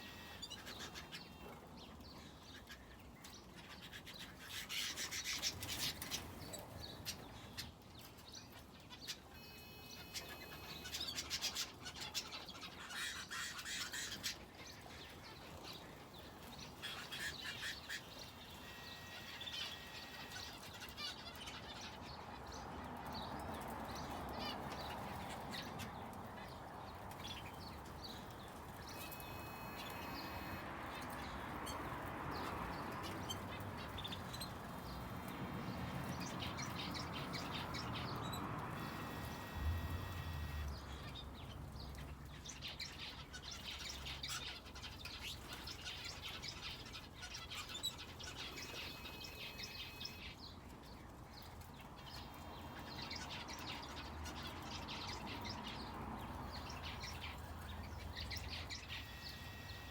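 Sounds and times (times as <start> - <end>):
finches and canary chirping: 0.0 - 59.9.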